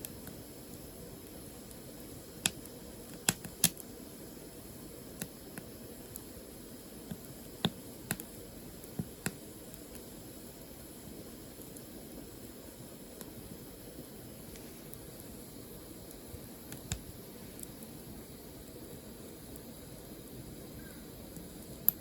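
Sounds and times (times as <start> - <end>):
fire hissing: 0.0 - 22.0
firewood crackling and popping: 0.0 - 22.0.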